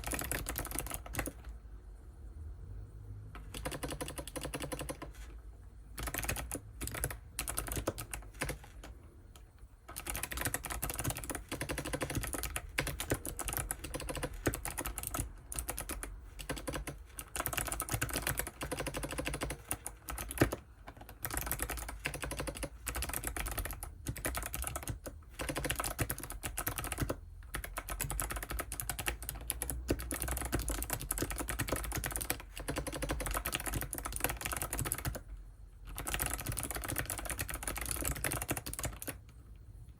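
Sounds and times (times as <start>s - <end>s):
mechanical keyboard typing: 0.0s - 1.6s, 3.3s - 39.4s.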